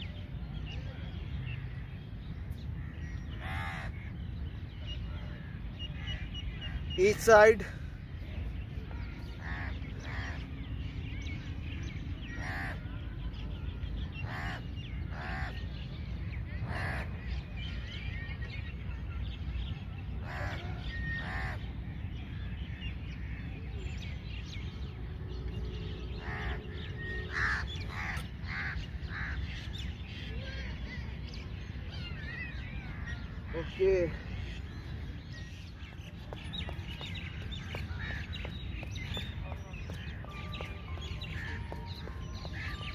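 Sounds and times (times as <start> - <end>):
birds calling: 1.6 - 42.9.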